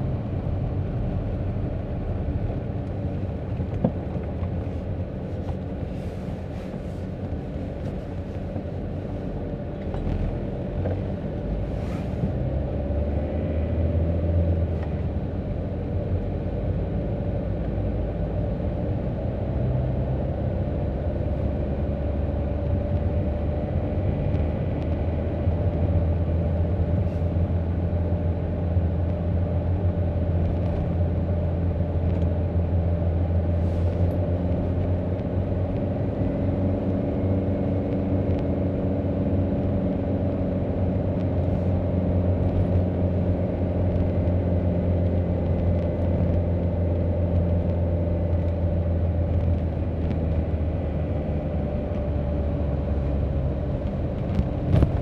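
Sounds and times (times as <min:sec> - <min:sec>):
car engine drone: 0:00.0 - 0:55.0
road noise: 0:00.0 - 0:55.0.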